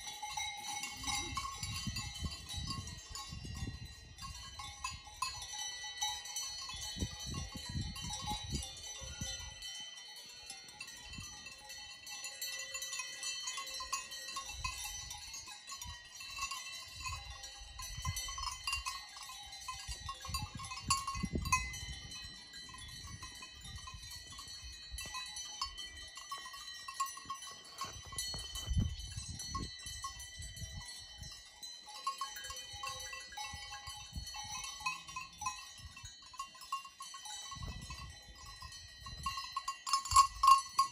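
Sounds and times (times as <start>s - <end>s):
livestock bells ringing and clanking: 0.0s - 40.9s.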